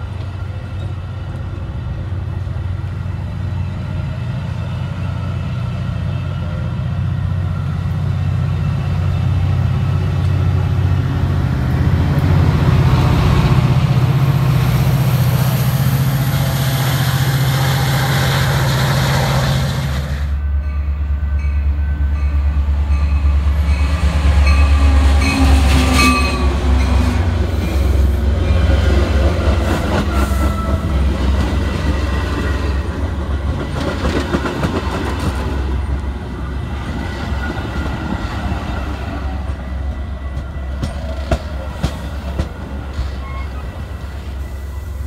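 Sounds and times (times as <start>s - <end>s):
diesel locomotive rumble: 0.0s - 45.0s
train cars rolling on rails: 0.0s - 45.0s.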